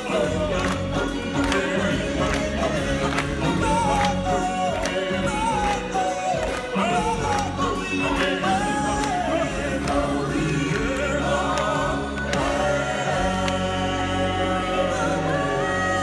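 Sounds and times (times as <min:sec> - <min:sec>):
choir singing held notes: 0:00.0 - 0:16.0
steady bass line: 0:00.0 - 0:16.0.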